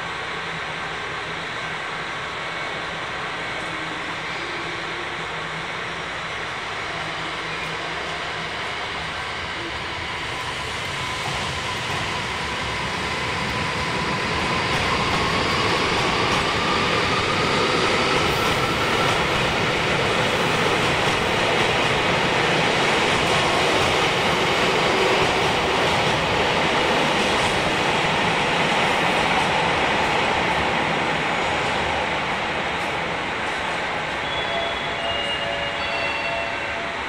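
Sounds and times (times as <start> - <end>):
rumble of wheels on rail: 0.0 - 37.0.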